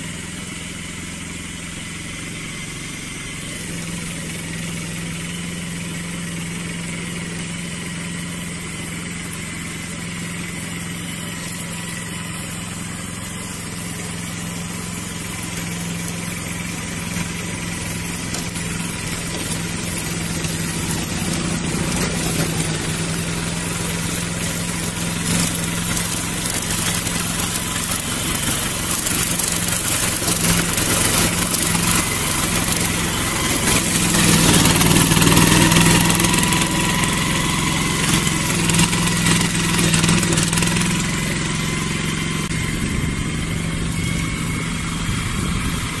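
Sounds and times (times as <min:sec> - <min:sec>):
grass cutter engine running: 0:00.0 - 0:46.0.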